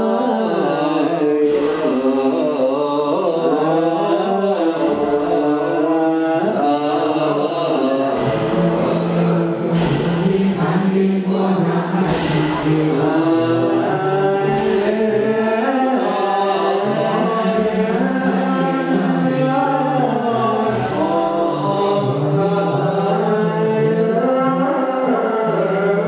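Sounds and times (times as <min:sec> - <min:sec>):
group chanting in unison: 0:00.0 - 0:26.0.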